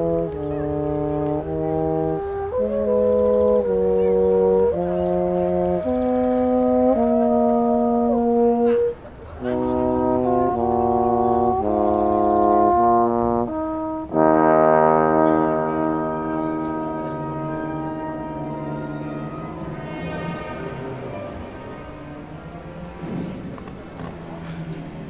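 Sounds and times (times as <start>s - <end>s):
brass playing slow chords: 0.0s - 25.0s.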